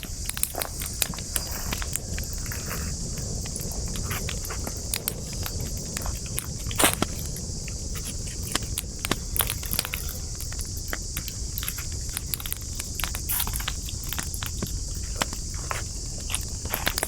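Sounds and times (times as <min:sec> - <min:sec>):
campfire crackling and popping: 0:00.0 - 0:17.0
high-pitched hiss: 0:00.0 - 0:17.0
low rumble of flames: 0:00.0 - 0:17.0.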